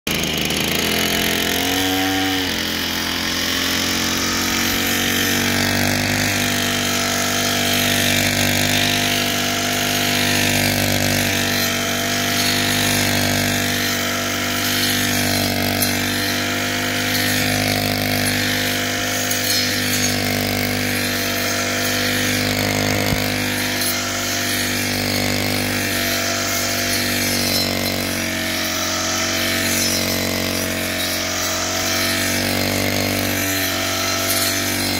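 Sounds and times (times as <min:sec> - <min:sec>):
brush cutter engine running: 0:00.1 - 0:34.9.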